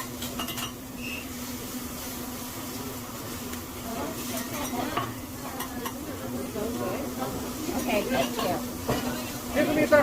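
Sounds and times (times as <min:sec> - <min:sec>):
indistinct voices of diners: 0:01.8 - 0:10.0.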